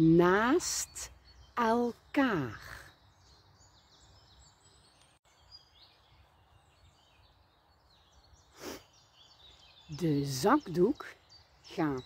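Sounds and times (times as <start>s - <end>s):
faint songbirds chirping: 0.0s - 12.0s.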